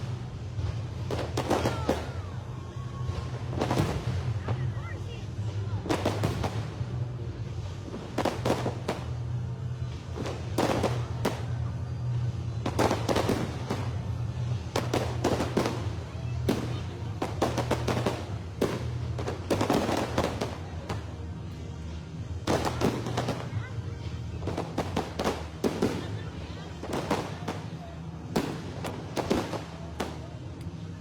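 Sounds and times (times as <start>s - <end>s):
fireworks booming and crackling: 0.0s - 31.0s
steady low hum: 2.2s - 31.0s.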